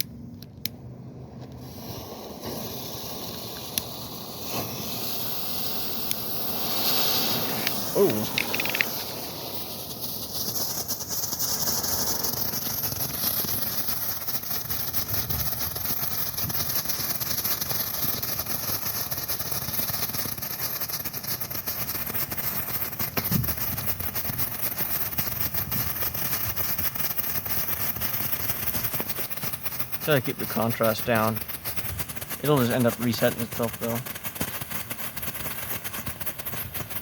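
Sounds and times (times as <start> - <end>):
strobe fireworks crackling: 0.0 - 37.0.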